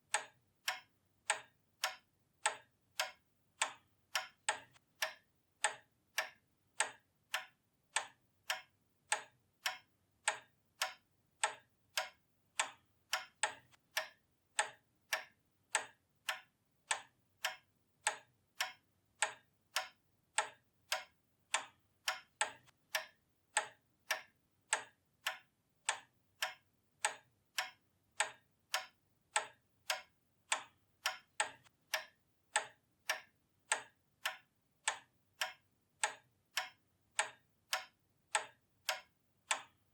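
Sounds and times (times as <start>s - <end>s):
pendulum clock ticking: 0.0s - 39.9s.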